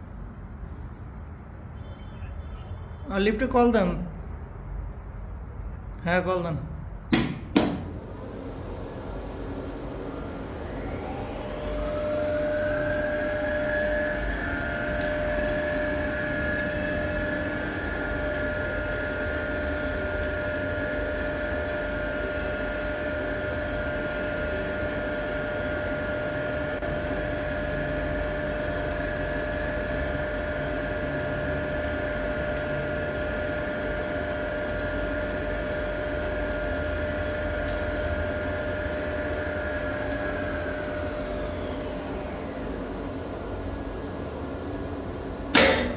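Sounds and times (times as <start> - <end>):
steady hum: 0.0 - 45.9
elevator motor whine: 7.1 - 45.9.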